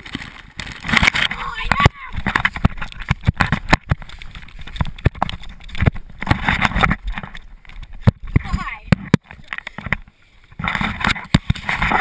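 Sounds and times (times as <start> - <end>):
camera knocks and clatters: 2.2 - 12.0.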